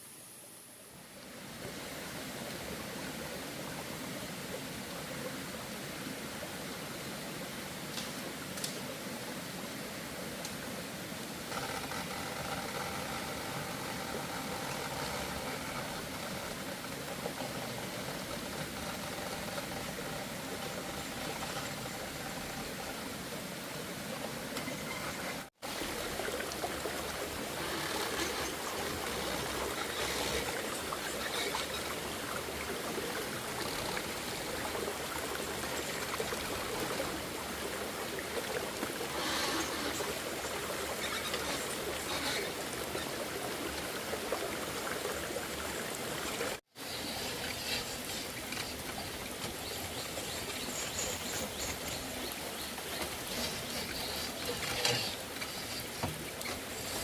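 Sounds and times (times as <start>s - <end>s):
running water: 0.9s - 57.0s.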